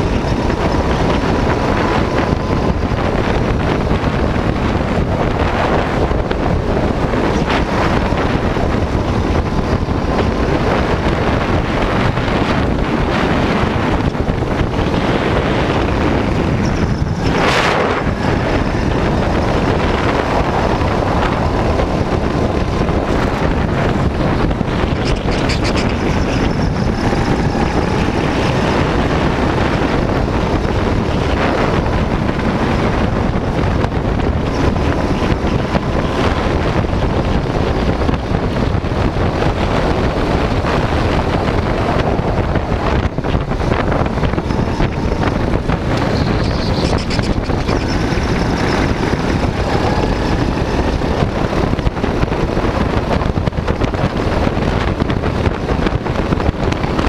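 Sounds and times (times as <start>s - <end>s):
go-kart engine running: 0.0s - 57.0s
wind buffeting on microphone: 0.0s - 57.0s.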